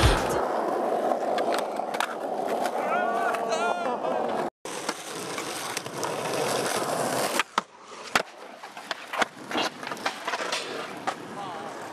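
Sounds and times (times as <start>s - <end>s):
skateboard wheels rolling on asphalt: 0.0s - 11.9s
skateboard clacking: 0.1s - 11.9s.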